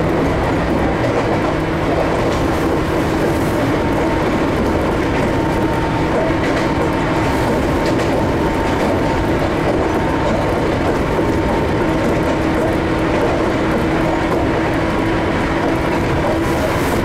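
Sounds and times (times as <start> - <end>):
clickety-clack of wheels: 0.0 - 17.0
train wheel-on-rail rumble: 0.0 - 17.0.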